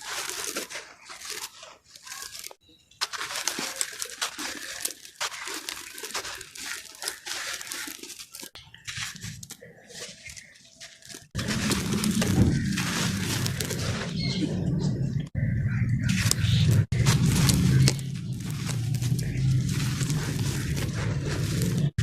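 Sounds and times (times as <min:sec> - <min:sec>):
block crunching and crackling: 0:00.0 - 0:15.4, 0:16.0 - 0:22.0.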